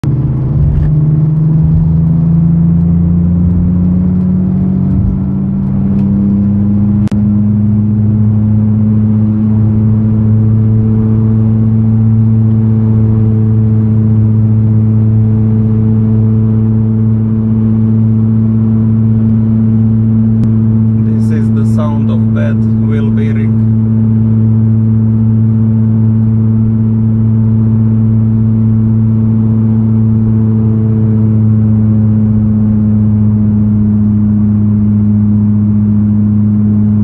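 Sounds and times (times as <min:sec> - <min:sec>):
wheel bearing humming drone: 0:00.0 - 0:37.0.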